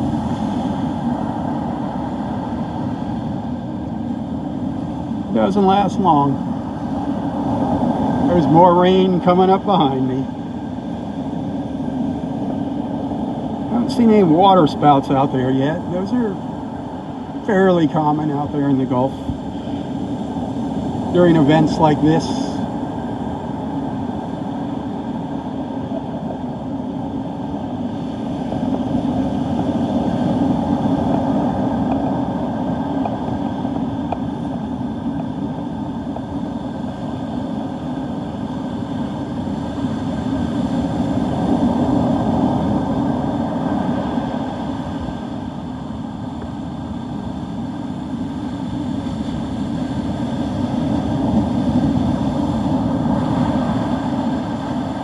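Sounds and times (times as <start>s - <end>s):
surf on a beach: 0.0s - 55.0s.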